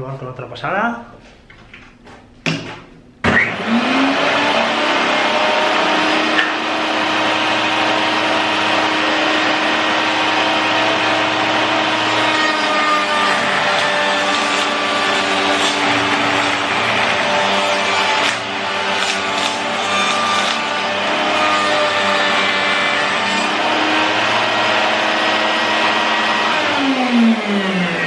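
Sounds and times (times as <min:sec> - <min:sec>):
router motor running: 0:03.5 - 0:28.0.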